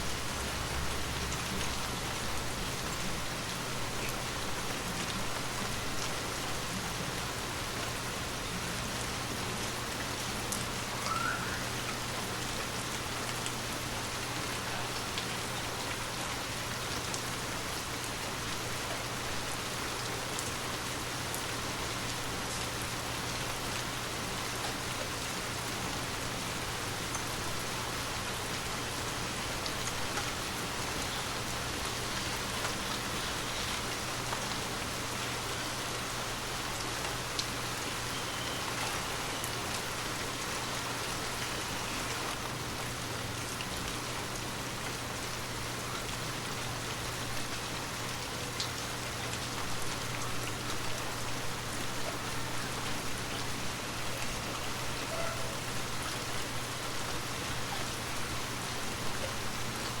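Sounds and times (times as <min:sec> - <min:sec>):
gentle rain falling: 0:00.0 - 1:00.0.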